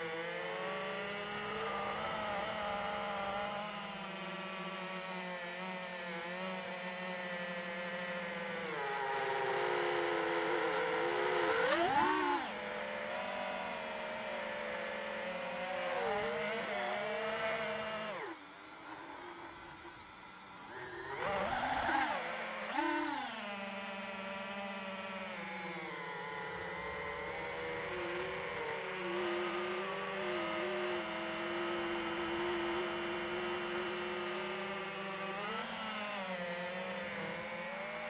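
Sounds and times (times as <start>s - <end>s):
drone motors and propellers whirring: 0.0s - 38.0s.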